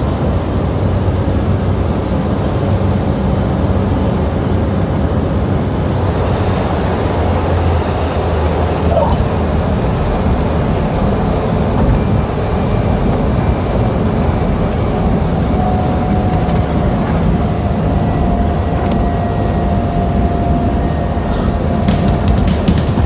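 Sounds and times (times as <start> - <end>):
turboprop engine and propeller: 0.0 - 23.0.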